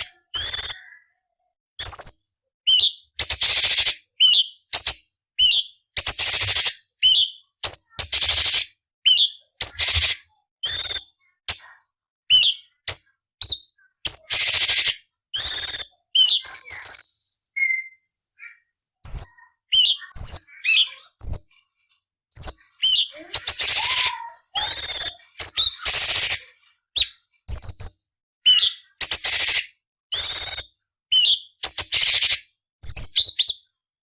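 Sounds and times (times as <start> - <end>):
bird singing rasps and whistles: 0.0 - 1.1, 1.8 - 11.7, 12.3 - 21.5, 22.3 - 33.7.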